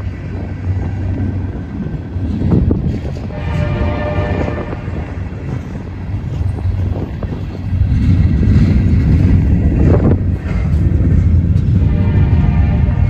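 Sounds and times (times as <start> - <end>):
freight train rumbling past: 0.0 - 13.0
wind on microphone: 0.0 - 13.0.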